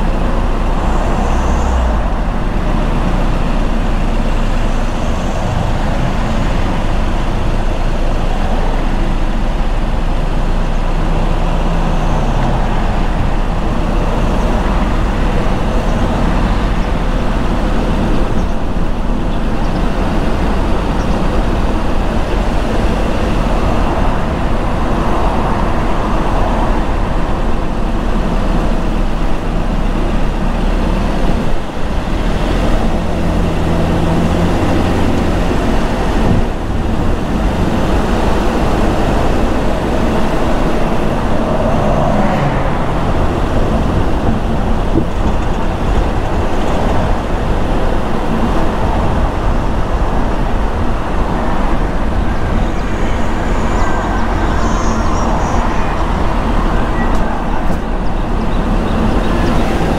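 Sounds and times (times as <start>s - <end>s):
car engine hum: 0.0s - 59.9s
tyre and road noise: 0.0s - 59.9s.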